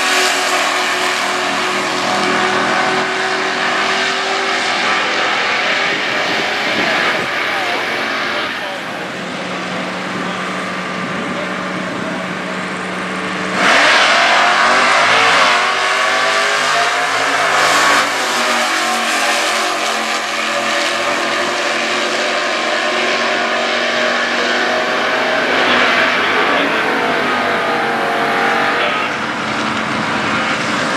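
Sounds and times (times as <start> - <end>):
drag car engines racing: 0.0 - 30.9.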